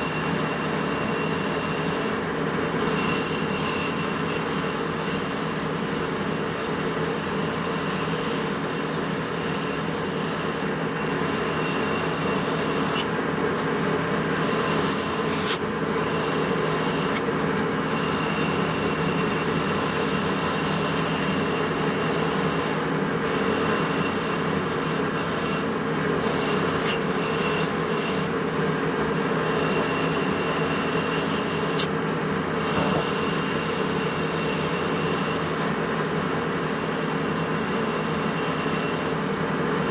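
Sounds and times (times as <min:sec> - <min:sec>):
power tool grinding metal: 0:00.0 - 0:39.9.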